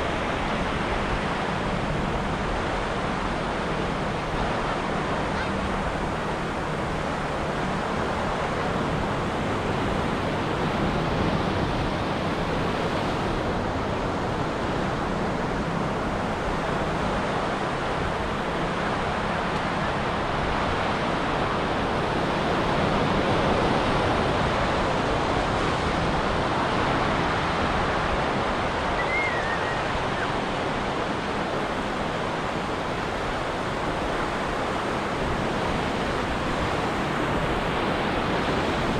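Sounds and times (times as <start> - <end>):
ocean surf breaking waves: 0.0 - 38.9.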